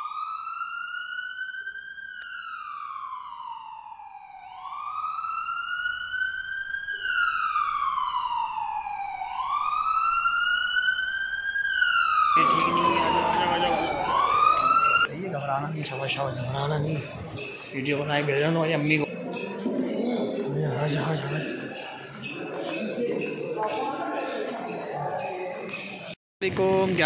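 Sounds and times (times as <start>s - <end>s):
ambulance siren wailing: 0.0s - 26.2s.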